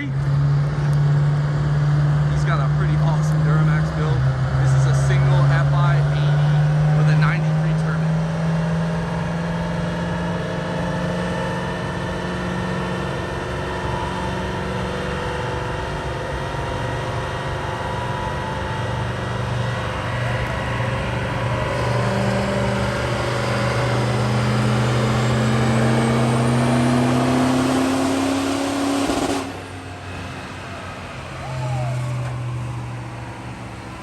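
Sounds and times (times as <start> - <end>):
diesel truck engine on dyno: 0.0 - 34.0.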